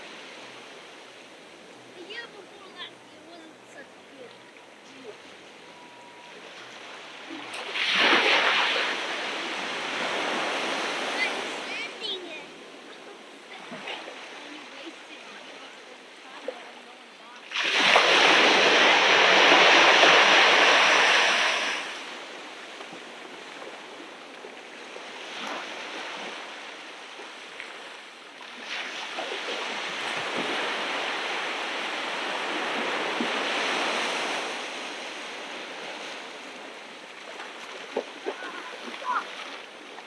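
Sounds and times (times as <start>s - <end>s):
ocean waves washing onto beach: 0.0s - 40.0s.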